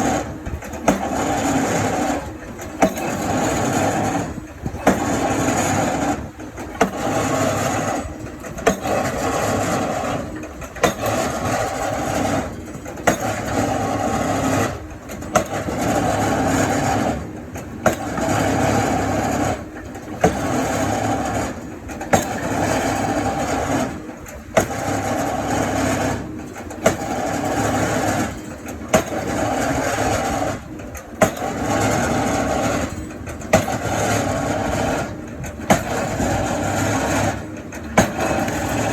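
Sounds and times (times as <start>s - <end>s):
excavator engine working hard: 0.0s - 38.9s.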